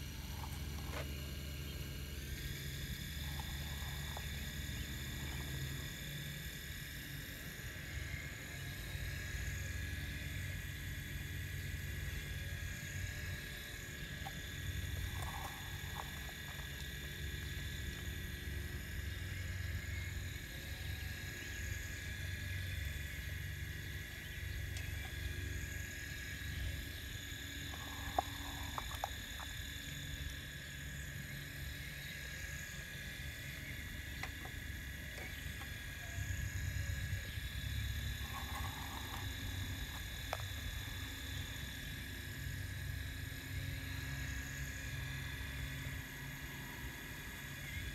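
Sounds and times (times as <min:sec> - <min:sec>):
motor whine: 0:00.0 - 0:47.9
wavering low hum: 0:00.0 - 0:47.9.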